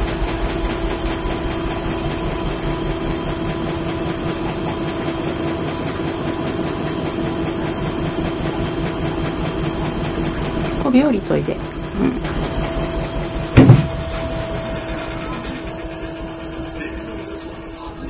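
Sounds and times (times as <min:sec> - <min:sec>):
washing machine spinning: 0:00.0 - 0:18.0.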